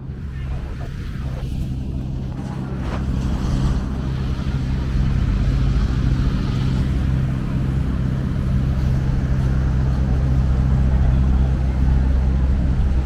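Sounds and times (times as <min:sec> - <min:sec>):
street traffic: 0:00.0 - 0:13.0
vehicle engine humming: 0:00.0 - 0:13.0.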